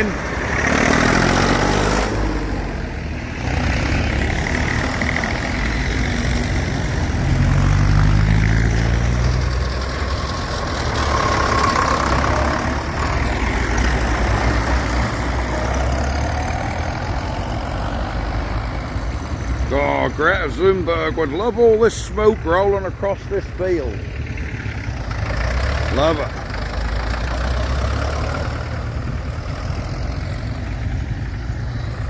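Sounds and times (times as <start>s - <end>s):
tractor engines rumbling: 0.0s - 32.0s.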